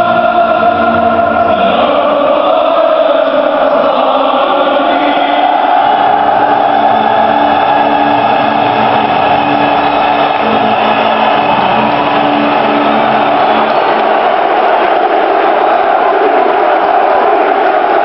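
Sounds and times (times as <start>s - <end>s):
stadium crowd singing a chant: 0.0s - 18.0s.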